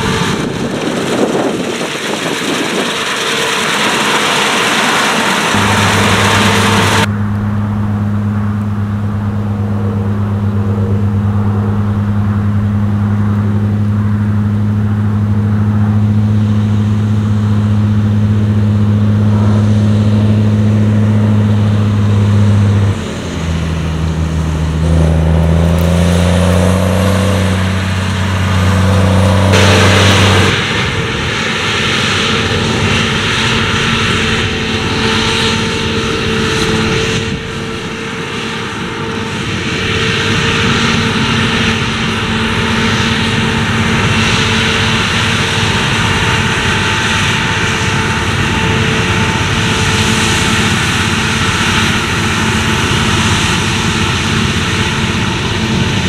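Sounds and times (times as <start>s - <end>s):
combine harvester machinery whine: 0.0s - 56.0s
tractor engine under load: 0.0s - 56.0s.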